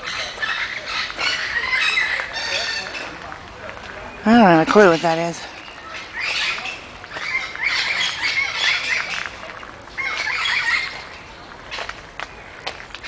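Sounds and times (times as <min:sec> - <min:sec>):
birds squawking: 0:00.0 - 0:03.3, 0:04.1 - 0:12.6.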